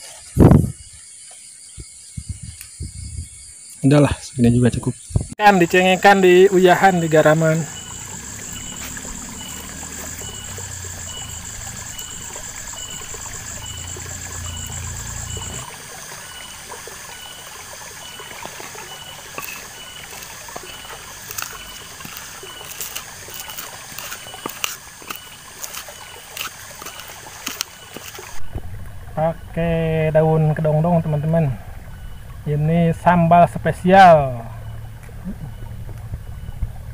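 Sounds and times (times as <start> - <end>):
insect trilling: 0.0 - 36.6
trickling water: 5.4 - 36.9.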